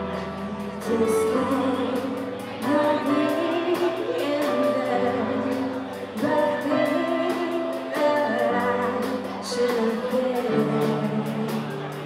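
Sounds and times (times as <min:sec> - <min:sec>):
live band playing: 0:00.0 - 0:12.0
woman singing: 0:00.0 - 0:12.0.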